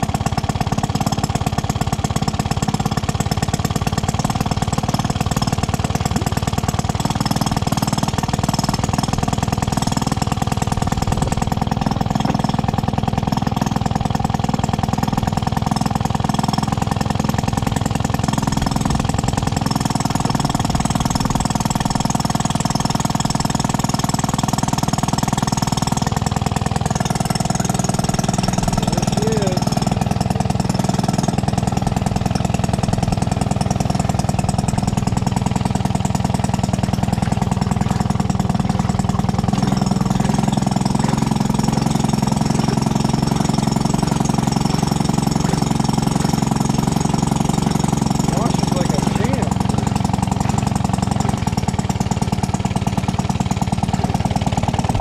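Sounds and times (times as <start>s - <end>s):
two-stroke engine popping: 0.0s - 55.0s
washer agitator in water: 0.0s - 55.0s.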